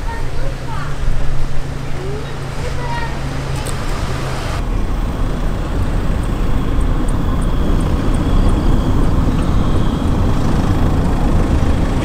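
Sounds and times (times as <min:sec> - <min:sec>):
cars driving on road: 0:00.0 - 0:12.0.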